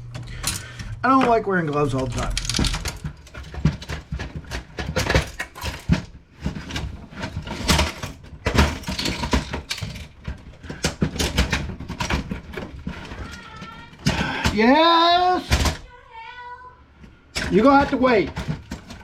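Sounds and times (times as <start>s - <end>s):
plastic parts clicking and rattling: 0.1s - 15.8s, 17.4s - 19.0s.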